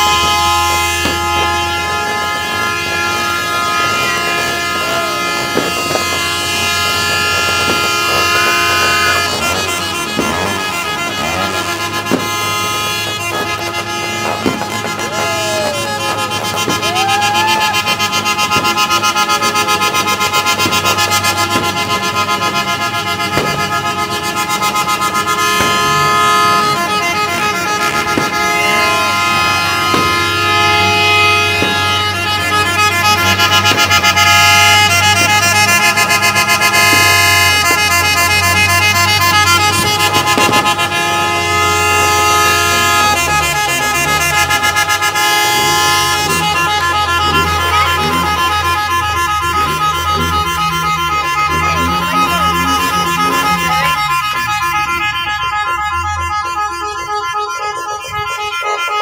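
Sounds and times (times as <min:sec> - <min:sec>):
firework bangs: 0:00.0 - 0:59.0
vehicle horn blaring: 0:00.0 - 0:59.0.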